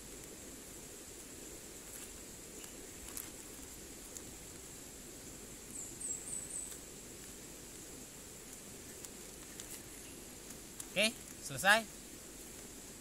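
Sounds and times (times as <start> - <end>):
high insect hum: 0.0 - 13.0.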